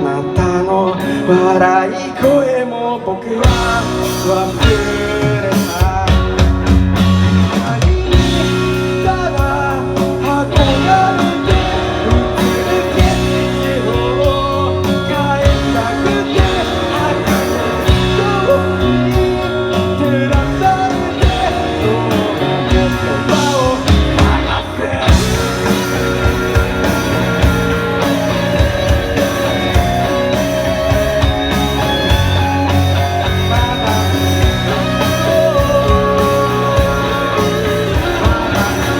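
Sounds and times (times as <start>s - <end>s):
rock band music: 0.0s - 38.9s.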